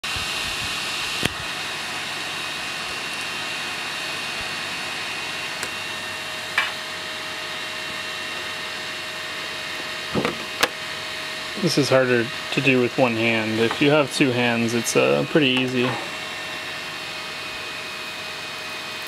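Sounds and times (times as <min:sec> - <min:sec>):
printer fan whir: 0:00.0 - 0:19.0.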